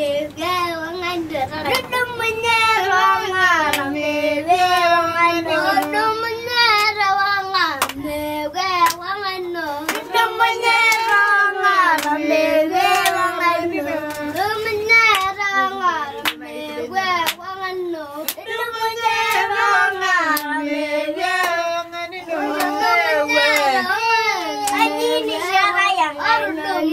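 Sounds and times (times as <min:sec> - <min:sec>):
children singing unaccompanied: 0:00.0 - 0:26.9.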